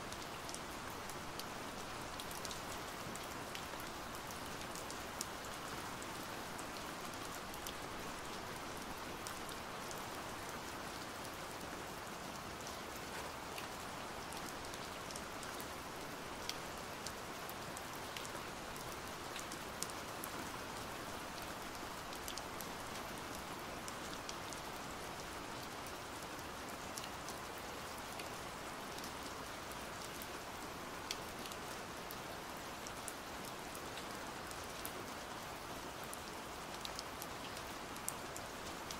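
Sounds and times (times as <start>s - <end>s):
pouring rain: 0.0s - 38.9s.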